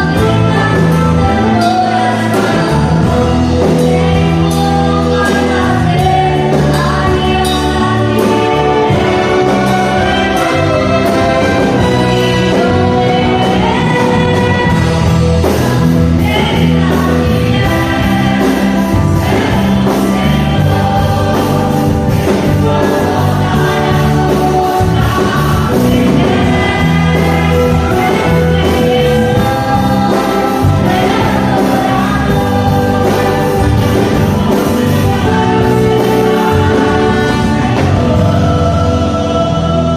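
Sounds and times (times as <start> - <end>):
gospel song with band: 0.0 - 39.9.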